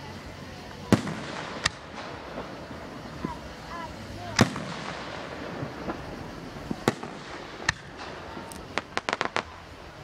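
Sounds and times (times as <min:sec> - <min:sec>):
fireworks popping: 0:00.0 - 0:10.0
fireworks banging: 0:00.1 - 0:10.0.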